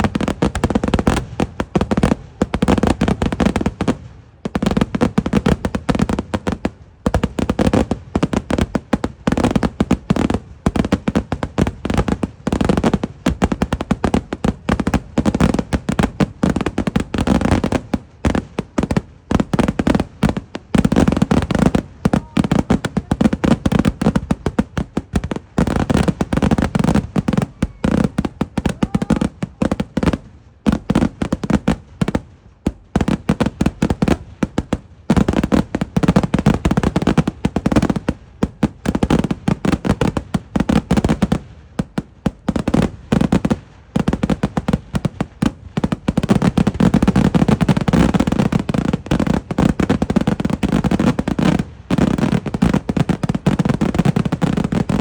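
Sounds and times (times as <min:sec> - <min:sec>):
firecracker explosions: 0:00.0 - 0:55.0.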